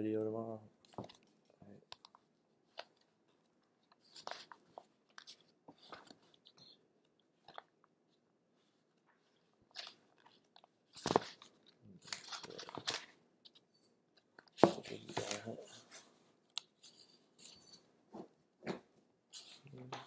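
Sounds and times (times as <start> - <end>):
book pages flipping: 0.8 - 17.2, 18.2 - 20.0.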